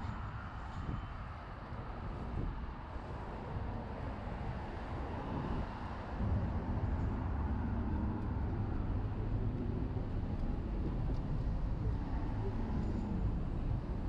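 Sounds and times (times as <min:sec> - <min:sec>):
faint engine hum: 0:00.0 - 0:14.0
low city rumble: 0:00.0 - 0:14.0.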